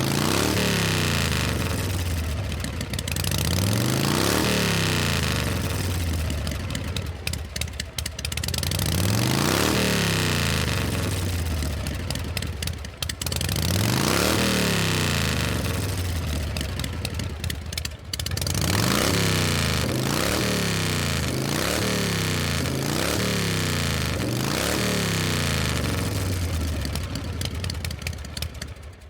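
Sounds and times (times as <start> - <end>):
engine revving and running rough: 0.0 - 29.0.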